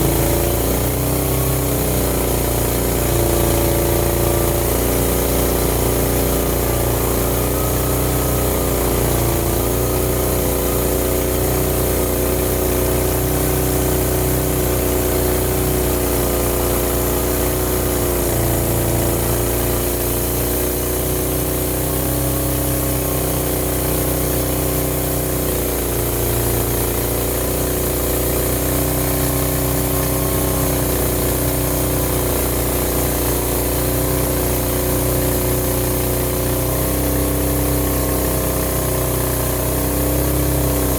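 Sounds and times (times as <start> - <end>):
sawmill engine drone: 0.0 - 40.9.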